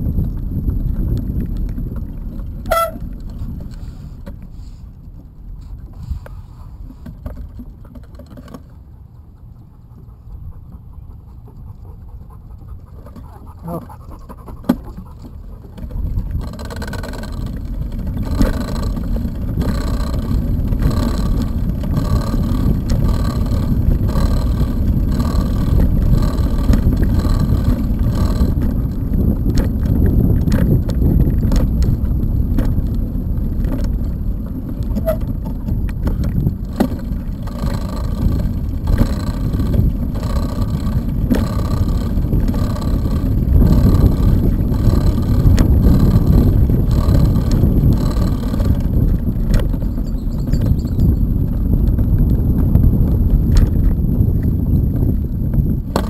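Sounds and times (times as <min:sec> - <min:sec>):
bicycle tires rumbling on boards: 0:00.0 - 0:56.0
wind on microphone: 0:00.0 - 0:56.0.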